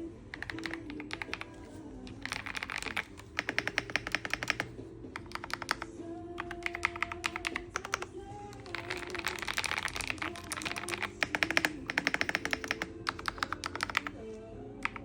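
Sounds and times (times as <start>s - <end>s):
mechanical keyboard key clacks: 0.4s - 14.2s.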